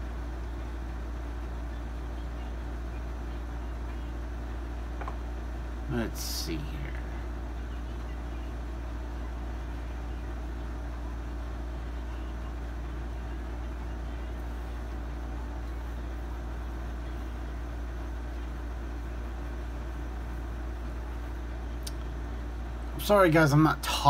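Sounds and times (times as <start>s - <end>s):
low hum of room noise: 0.0s - 24.0s.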